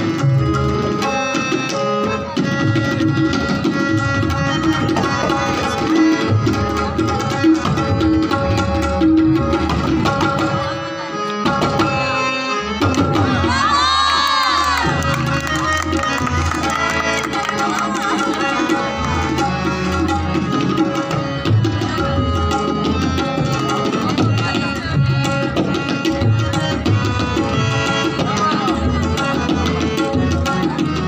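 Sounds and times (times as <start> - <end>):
fast tabla solo: 0.0 - 31.0
harmonium sustained notes: 0.0 - 31.0.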